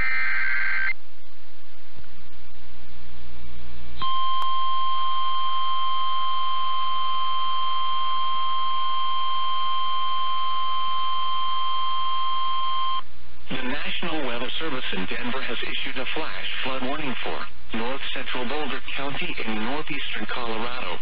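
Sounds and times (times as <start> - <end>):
low hum: 0.0 - 19.6.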